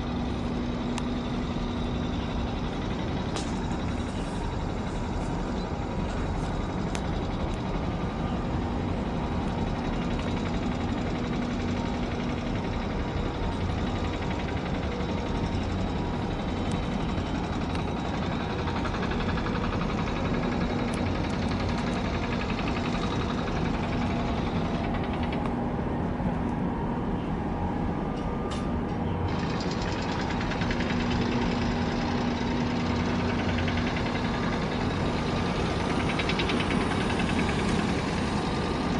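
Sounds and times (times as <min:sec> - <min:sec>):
engine hum: 0:00.0 - 0:38.9
ship diesel engine drone: 0:00.0 - 0:38.9.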